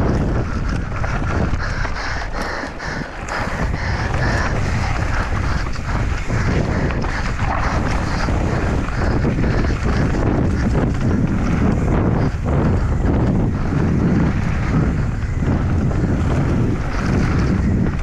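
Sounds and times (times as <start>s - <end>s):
bike knocking and rattling: 0.0s - 18.0s
bike tyres rumbling on gravel: 0.0s - 18.0s
wind buffeting microphone: 0.0s - 18.0s.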